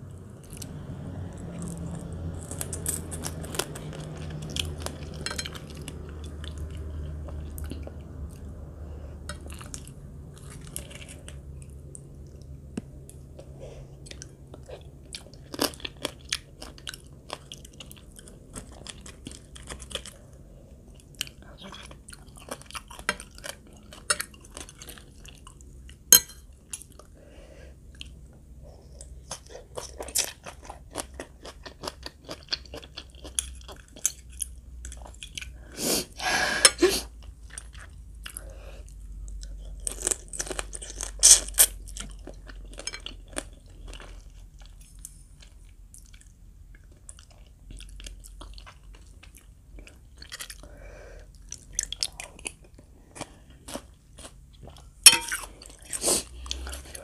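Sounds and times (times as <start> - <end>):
person chewing and crunching food: 0.0 - 57.0.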